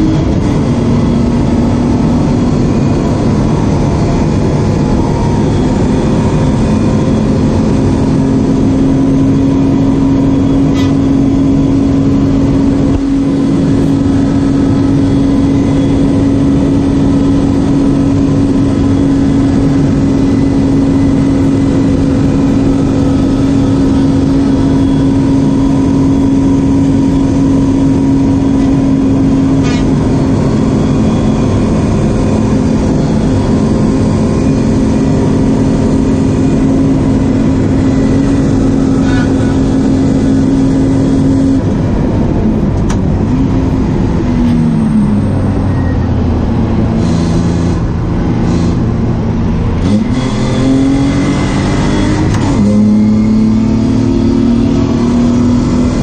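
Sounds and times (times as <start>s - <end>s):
car engine at full throttle: 0.0s - 56.0s
road and wind noise: 0.0s - 56.0s.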